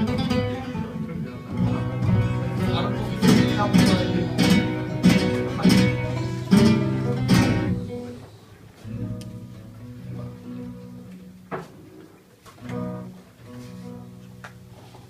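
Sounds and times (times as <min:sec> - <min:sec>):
guitar strumming sharp chords: 0:00.0 - 0:08.2, 0:08.9 - 0:11.5, 0:12.6 - 0:14.8.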